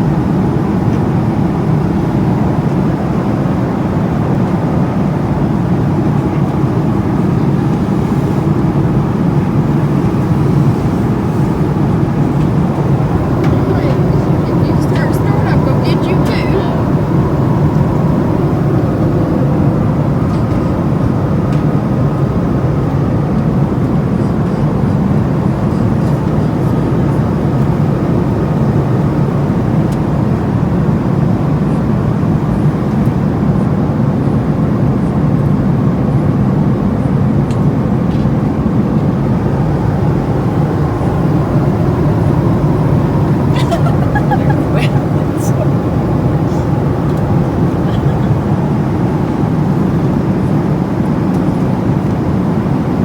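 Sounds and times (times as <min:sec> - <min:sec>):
airliner cabin drone: 0:00.0 - 0:53.0.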